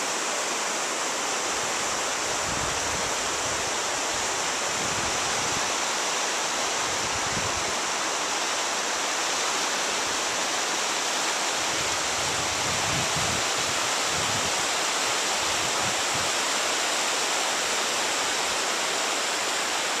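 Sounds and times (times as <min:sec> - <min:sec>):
shallow river rushing over stones: 0:00.0 - 0:20.0.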